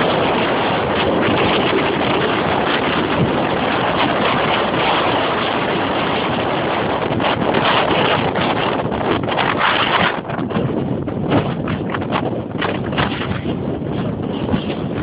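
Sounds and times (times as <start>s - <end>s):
storm wind on microphone: 0.0s - 15.0s.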